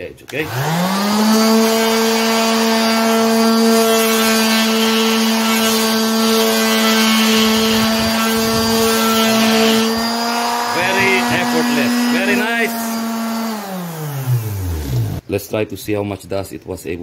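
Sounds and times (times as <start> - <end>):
orbital sander sanding wood: 0.4 - 15.2.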